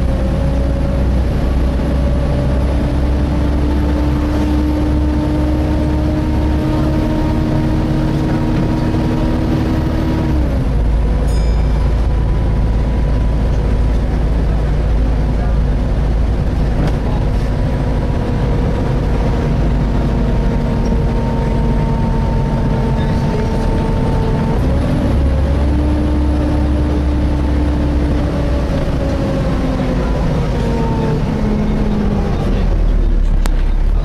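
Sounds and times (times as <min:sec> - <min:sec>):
bus engine rumble: 0:00.0 - 0:34.0.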